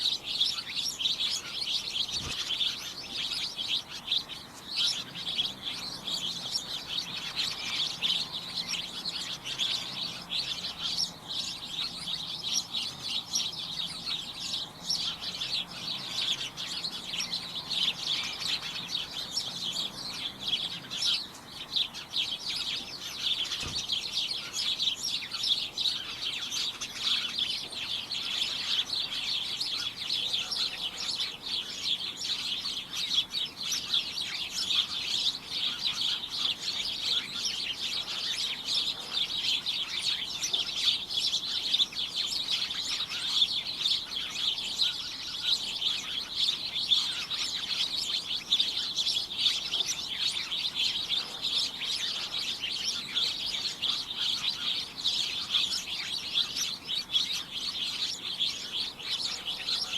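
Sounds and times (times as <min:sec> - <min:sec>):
flock of small birds chirping: 0:00.0 - 0:59.9.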